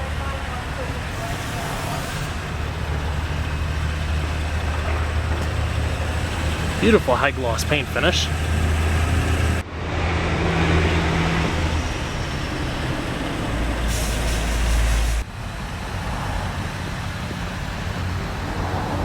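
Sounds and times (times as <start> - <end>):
vehicle rumble and hiss: 0.0 - 19.0.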